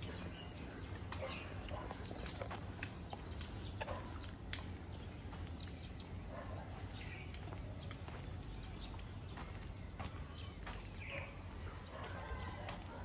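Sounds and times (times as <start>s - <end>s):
footsteps on concrete: 0.0s - 13.0s.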